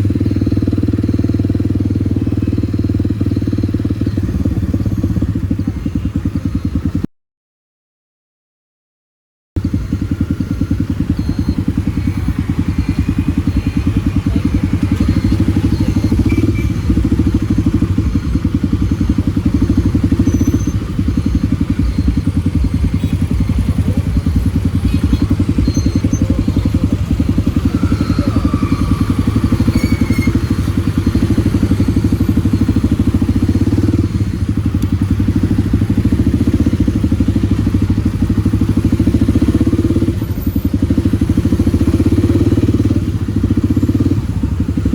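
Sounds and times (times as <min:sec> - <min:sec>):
motorcycle engine running: 0:00.0 - 0:07.1, 0:09.6 - 0:44.9.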